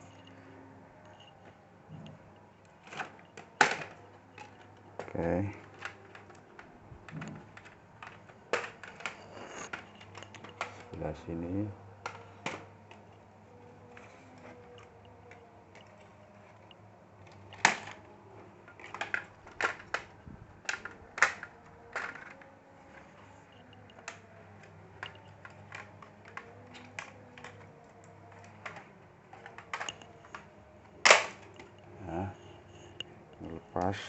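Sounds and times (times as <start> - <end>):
plastic clips clicking and snapping: 1.9 - 11.0, 12.0 - 31.9.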